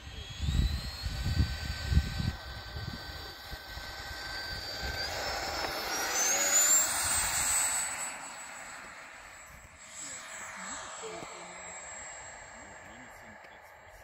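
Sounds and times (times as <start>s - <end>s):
model jet fan whining: 0.0s - 14.0s.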